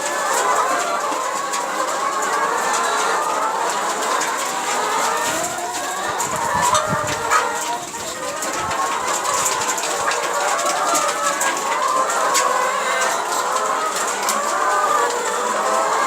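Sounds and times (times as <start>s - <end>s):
hens clucking: 0.0s - 16.0s.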